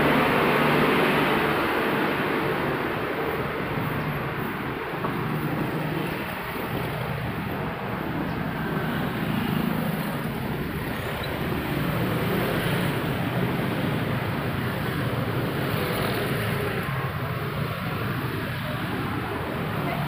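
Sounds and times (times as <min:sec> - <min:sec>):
motorbikes and cars passing: 0:00.0 - 0:20.0.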